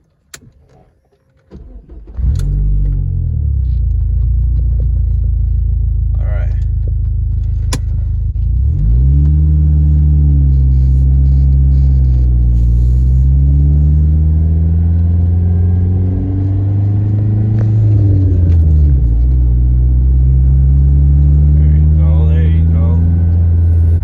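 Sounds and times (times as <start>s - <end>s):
car engine accelerating: 1.5s - 24.0s.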